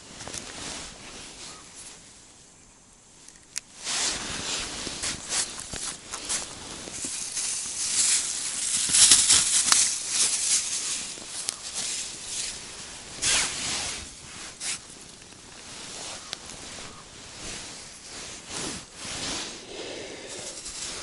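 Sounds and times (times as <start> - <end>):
clothing and hands rustling: 3.8 - 21.0.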